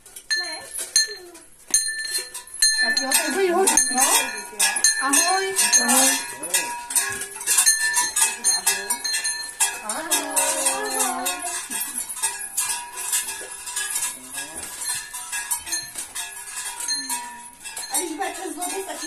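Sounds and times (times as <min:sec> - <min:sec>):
cowbells clanking and jangling: 0:00.0 - 0:19.0.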